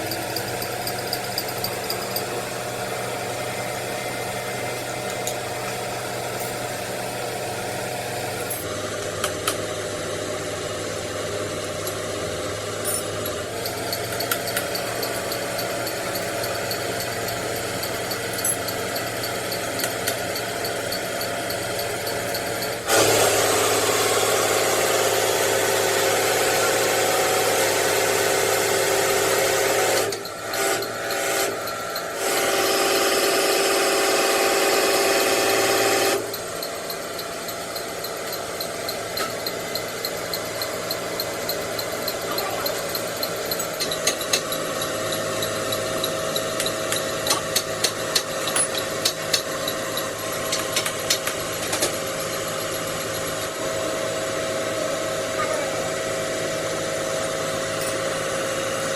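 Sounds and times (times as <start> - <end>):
loud power tool: 0.0 - 58.9
machine running: 0.0 - 58.9.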